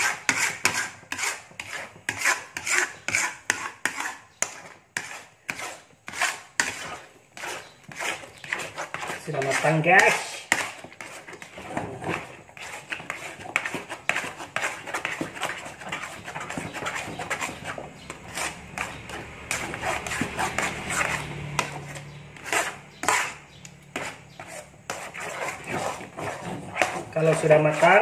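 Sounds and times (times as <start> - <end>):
metal spatula scraping wok: 0.0 - 28.0
sticky dough squelching: 0.0 - 28.0.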